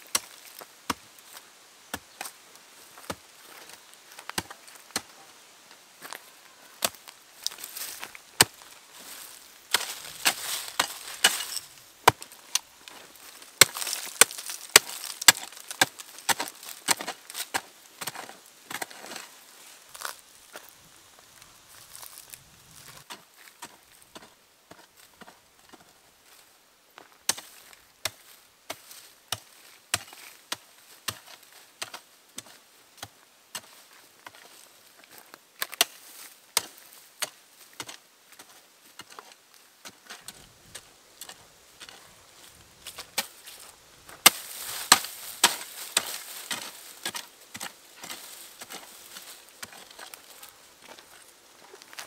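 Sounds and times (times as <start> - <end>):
crackling rustling noise: 2.2 - 30.4, 33.6 - 52.0.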